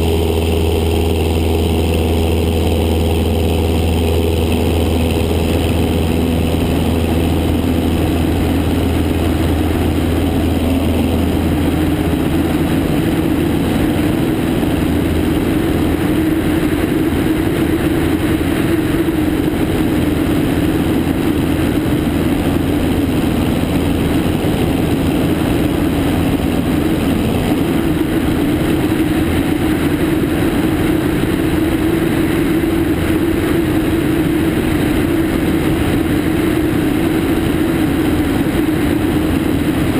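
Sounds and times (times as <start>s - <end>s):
airplane engine drone: 0.0s - 39.9s
wind rush on microphone: 0.0s - 39.9s.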